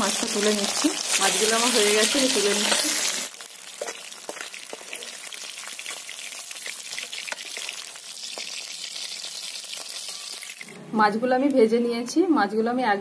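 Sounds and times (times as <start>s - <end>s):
fish sizzling in oil: 0.0s - 10.7s.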